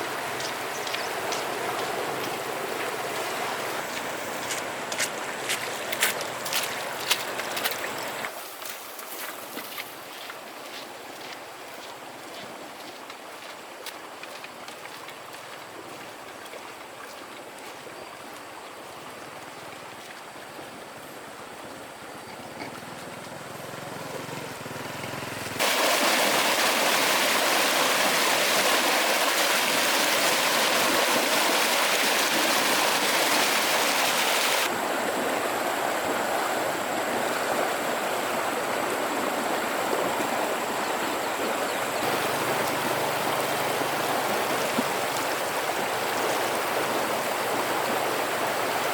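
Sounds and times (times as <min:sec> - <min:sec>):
river water rushing: 0:00.0 - 0:08.5, 0:09.2 - 0:48.9.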